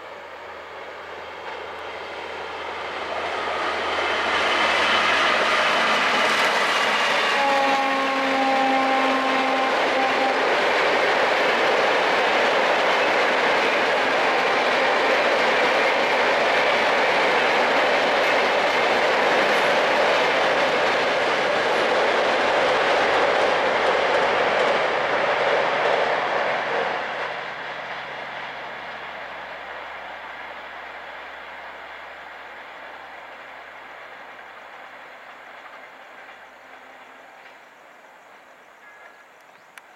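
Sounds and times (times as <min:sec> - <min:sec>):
train wheels rushing on rail: 0:00.0 - 0:39.9.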